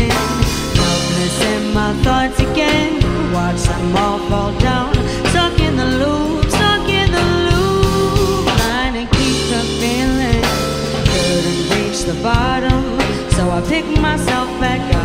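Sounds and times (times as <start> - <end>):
bass: 0.0 - 15.0
drum kit: 0.0 - 15.0
keyboard: 0.0 - 15.0
woman singing lead: 0.0 - 15.0.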